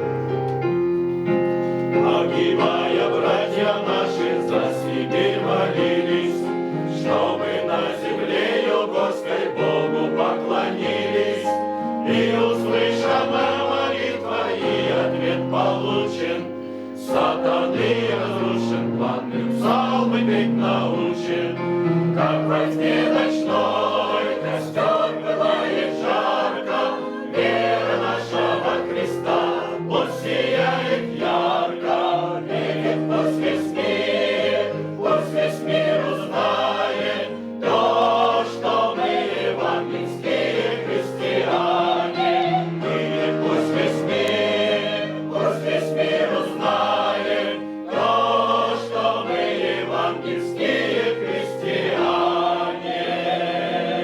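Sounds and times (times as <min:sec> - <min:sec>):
choir singing held chords: 0:01.2 - 0:54.0.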